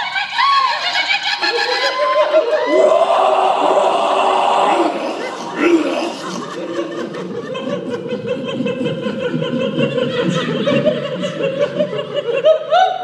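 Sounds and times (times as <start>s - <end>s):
group of people laughing: 0.0s - 13.0s.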